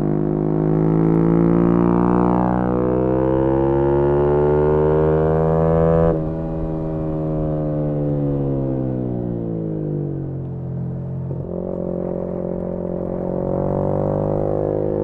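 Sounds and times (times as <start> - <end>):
motorcycle engine revving: 0.0 - 10.4, 11.0 - 15.0.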